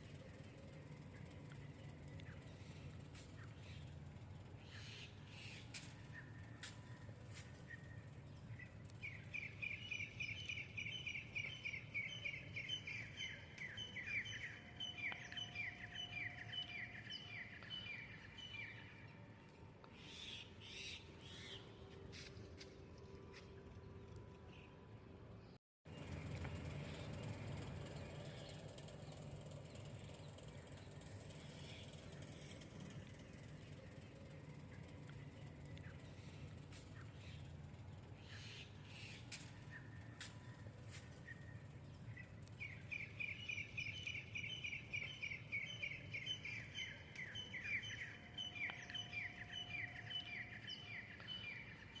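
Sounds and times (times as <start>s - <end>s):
songbird chirping: 0.0s - 22.7s, 25.4s - 52.0s
low background rumble: 0.0s - 52.0s.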